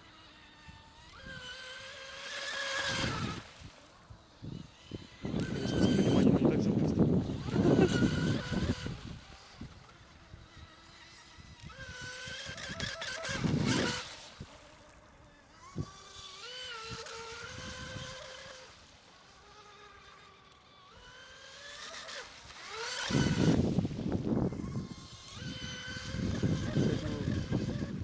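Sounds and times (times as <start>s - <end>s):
electric motor boats whining: 0.0s - 28.0s
boats rushing past: 0.1s - 28.0s.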